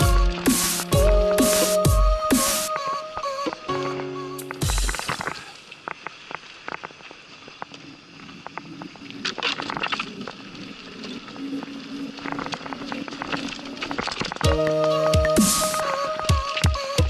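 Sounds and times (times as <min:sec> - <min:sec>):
tyres crackling over rough ground: 0:03.1 - 0:17.0.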